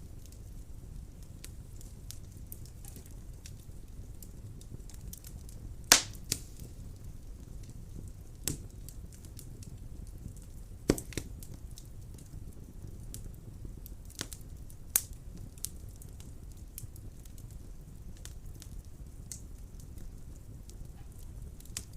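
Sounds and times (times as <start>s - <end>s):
fire crackles: 0.0s - 21.9s
fire flame rushing: 0.0s - 21.9s
fire pops: 0.0s - 21.9s.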